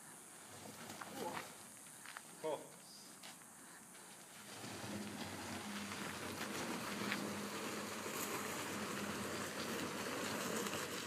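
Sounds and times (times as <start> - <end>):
tire scraping across grass: 0.0 - 2.4, 3.9 - 11.0.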